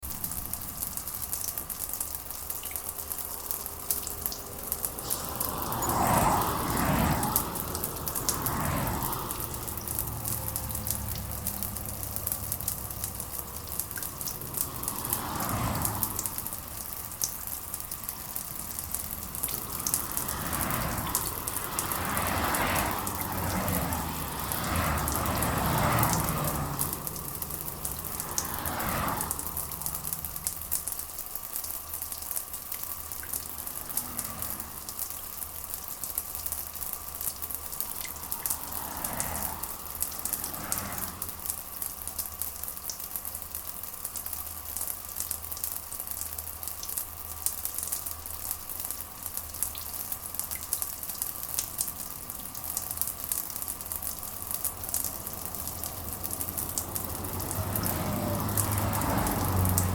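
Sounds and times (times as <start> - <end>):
rain patter: 0.0 - 59.9
water dripping: 0.0 - 59.9.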